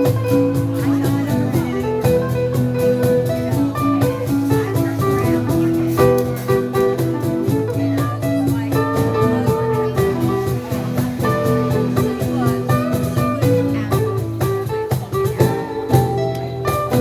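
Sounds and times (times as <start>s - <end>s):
guitar notes: 0.0s - 17.0s
live band playing instrumental: 0.0s - 17.0s.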